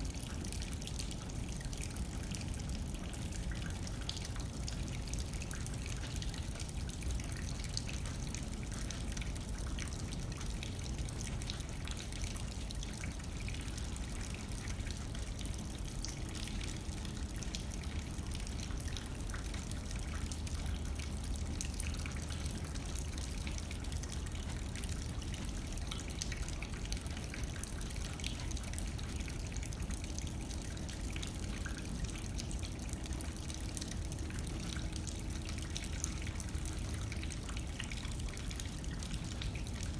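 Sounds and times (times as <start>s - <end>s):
rain striking a windowpane: 0.0s - 39.9s.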